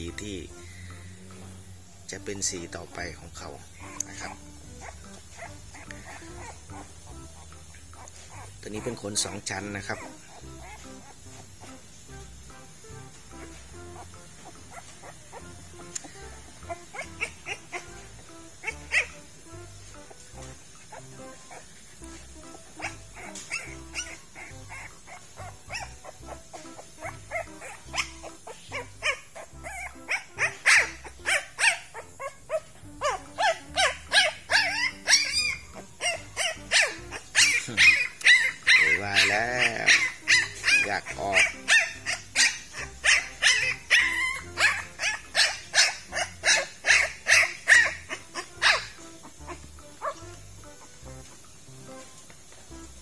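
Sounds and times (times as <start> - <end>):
puppy crying: 3.4 - 11.8, 13.3 - 51.2.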